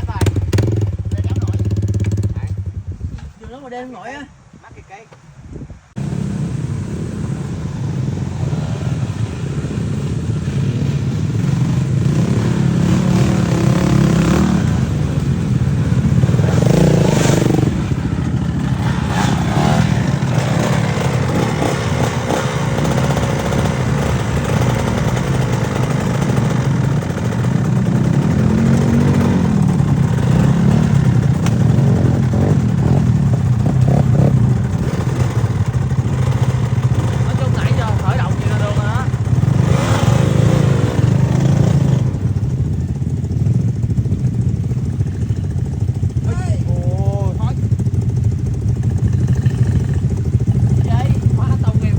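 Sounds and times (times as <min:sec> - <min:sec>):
motorcycle engine revving: 0:00.0 - 0:03.2, 0:06.0 - 0:51.9.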